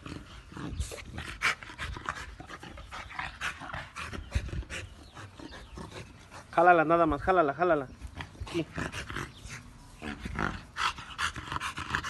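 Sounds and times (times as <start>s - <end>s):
dog panting: 0.0s - 7.0s, 8.0s - 12.0s.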